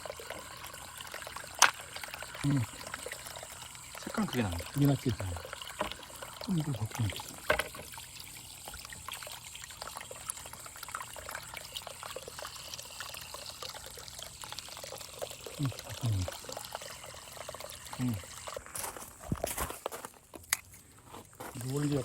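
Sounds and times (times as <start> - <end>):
water trickling over stones: 0.0 - 22.0.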